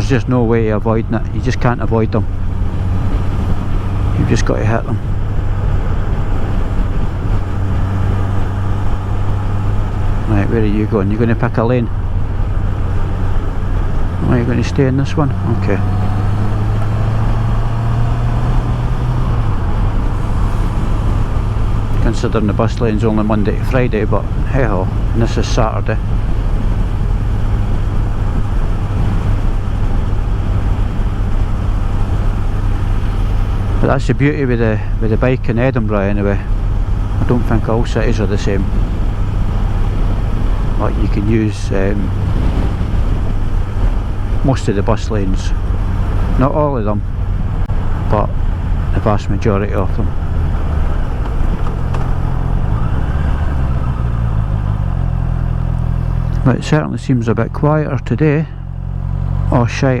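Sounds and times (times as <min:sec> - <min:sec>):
wind noise: 0:00.0 - 0:57.2
road noise: 0:00.0 - 1:00.0
motorcycle engine running: 0:01.2 - 0:34.1, 0:34.8 - 1:00.0.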